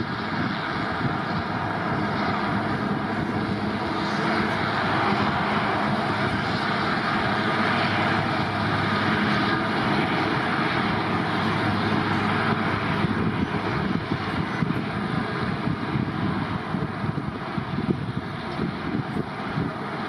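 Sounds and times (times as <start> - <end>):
airliner engines rushing: 0.0 - 20.0.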